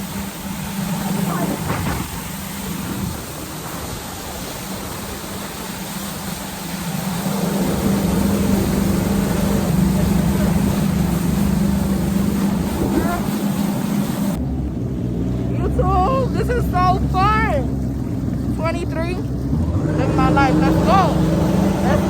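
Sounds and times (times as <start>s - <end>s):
jet ski engine running: 0.0s - 22.0s.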